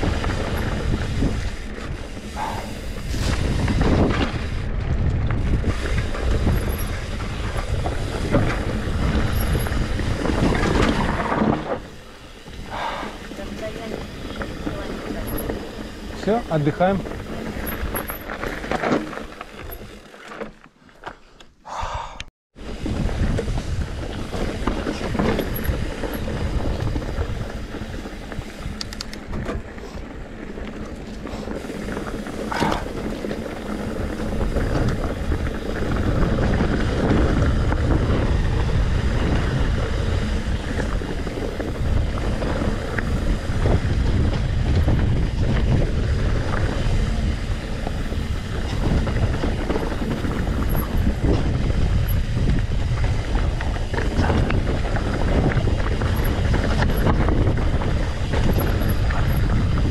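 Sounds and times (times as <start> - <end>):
wind rumbling on microphone: 0.0 - 20.2, 21.7 - 59.9
bike clicks: 0.0 - 59.9.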